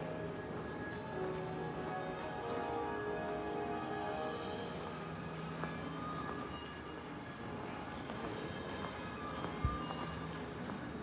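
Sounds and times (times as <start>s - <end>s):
music with held melodic notes: 0.0s - 11.0s.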